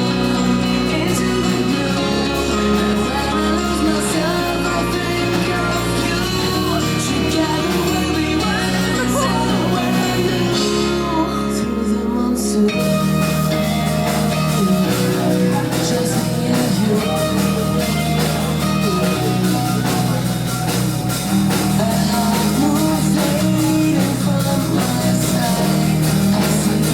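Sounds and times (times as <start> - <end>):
drums beating: 0.0 - 11.2, 12.7 - 26.9
electric guitar: 0.0 - 26.9
person singing: 0.0 - 26.9
rock song: 0.0 - 26.9.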